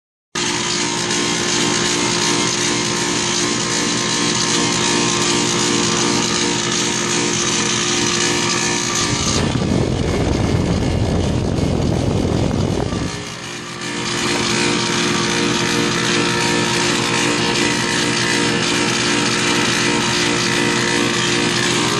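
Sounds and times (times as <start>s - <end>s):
compressor humming and hissing: 0.4s - 21.9s.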